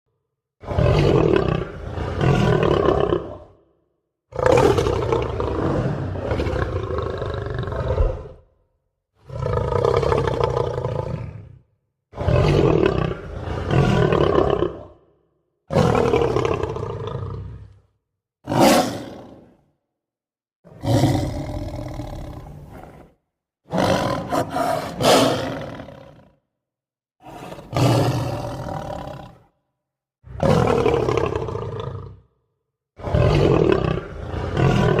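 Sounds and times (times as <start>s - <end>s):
lion roaring: 0.6s - 3.6s, 4.3s - 8.5s, 9.2s - 15.1s, 15.7s - 17.8s, 18.5s - 19.6s, 20.7s - 26.4s, 27.2s - 29.5s, 30.3s - 32.3s, 33.0s - 35.0s.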